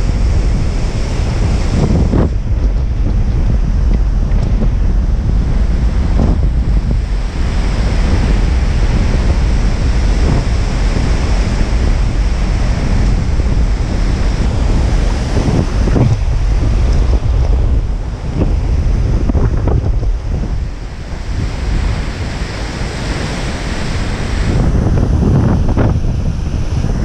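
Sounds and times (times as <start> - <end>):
heavy surf breaking: 0.0 - 27.0
wind buffeting microphone: 0.0 - 27.0.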